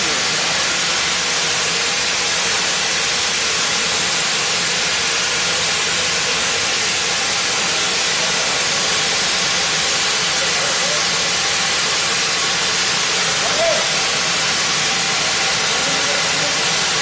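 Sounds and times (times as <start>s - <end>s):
loud steady hissing: 0.0s - 17.0s.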